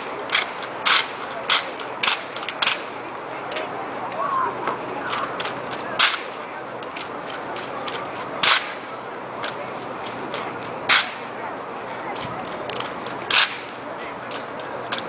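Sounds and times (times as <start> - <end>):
drill rifles cracking: 0.0 - 3.6, 5.1 - 11.3, 12.2 - 15.0.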